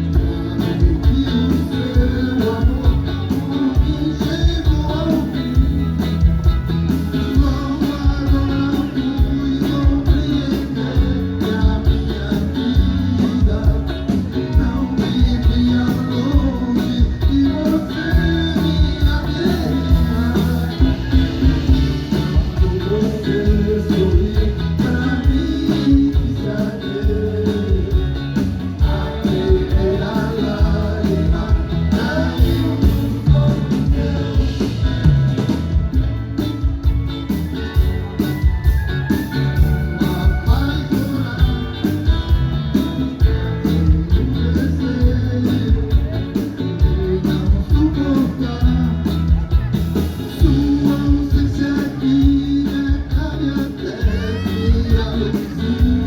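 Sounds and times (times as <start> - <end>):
person singing: 0.0 - 36.6, 37.6 - 56.0
bass: 0.0 - 56.0
drum kit: 0.0 - 56.0
electric guitar: 0.0 - 56.0.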